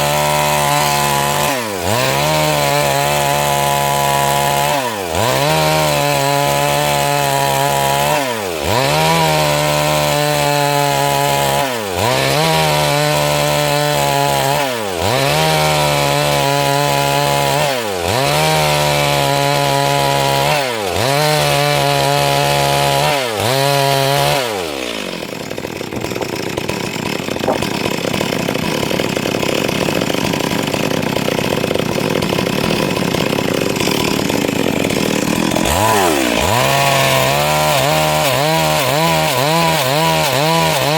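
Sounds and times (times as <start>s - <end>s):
chainsaw ripping a log: 0.0s - 40.9s.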